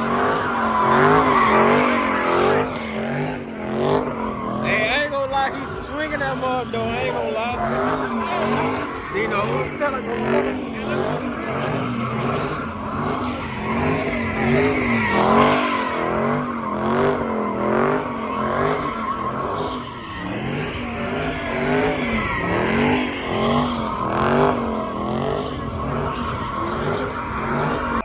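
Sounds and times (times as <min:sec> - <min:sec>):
car engine revving: 0:00.0 - 0:28.0
tires squealing and skidding: 0:00.0 - 0:28.0.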